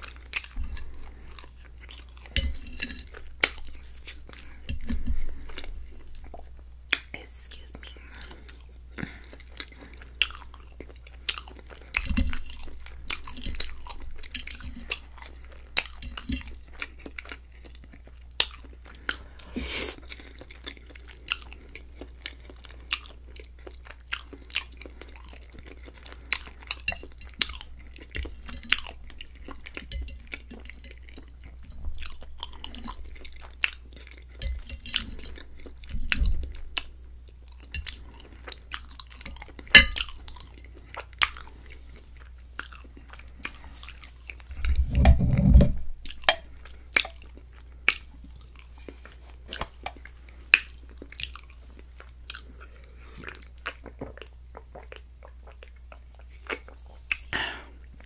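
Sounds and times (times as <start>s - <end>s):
chewing pasta with clicks: 0.0s - 44.7s, 46.0s - 58.0s.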